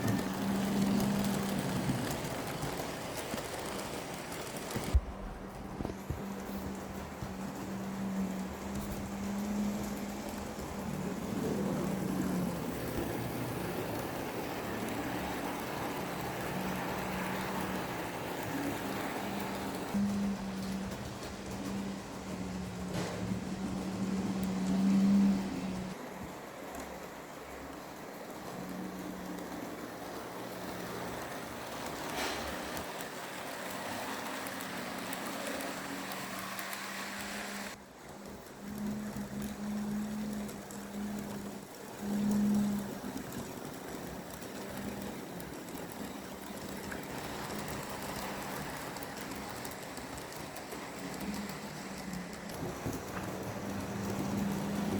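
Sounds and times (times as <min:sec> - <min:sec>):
model train whirring on track: 0:00.0 - 0:54.9
wheels rushing on rail: 0:00.0 - 0:54.9.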